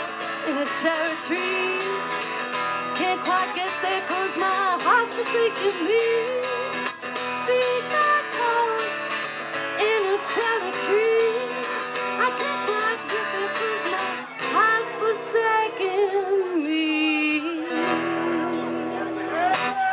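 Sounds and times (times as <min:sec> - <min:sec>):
woman singing wordless vocals: 0:00.0 - 0:02.2, 0:02.9 - 0:06.8, 0:07.4 - 0:18.7
guitar: 0:00.0 - 0:19.9.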